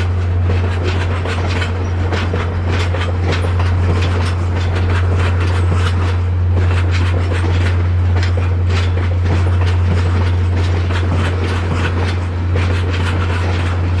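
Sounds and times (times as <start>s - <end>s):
train low rumble: 0.0s - 14.0s
train wheels clicking on rail joints: 0.0s - 14.0s.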